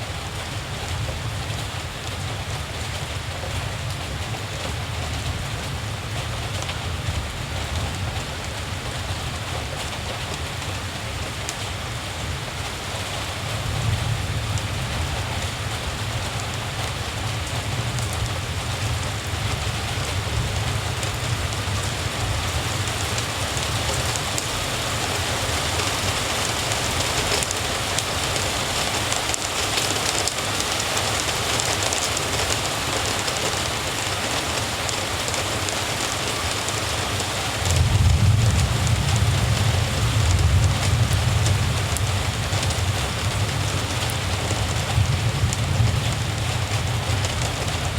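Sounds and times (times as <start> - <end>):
rain falling on surfaces: 0.0 - 47.9.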